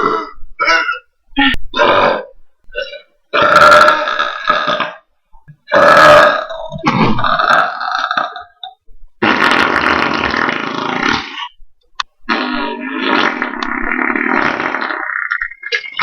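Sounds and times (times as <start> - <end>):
man burping loudly: 0.0 - 5.1, 5.7 - 11.6, 12.3 - 16.0.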